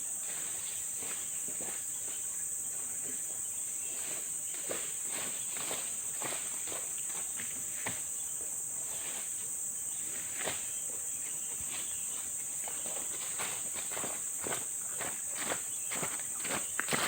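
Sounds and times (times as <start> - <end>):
forest insects chorus: 0.0 - 17.0.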